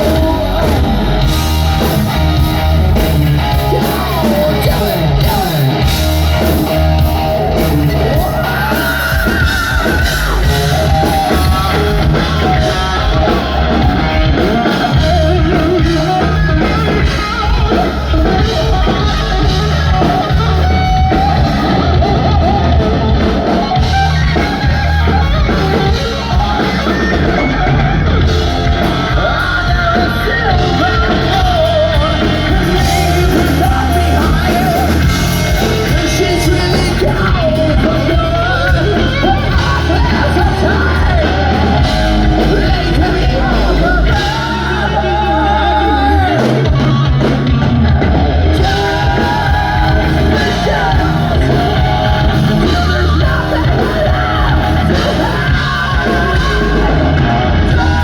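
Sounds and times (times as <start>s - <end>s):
hard rock band playing live: 0.0s - 58.0s
singer belting and yelling: 0.0s - 58.0s.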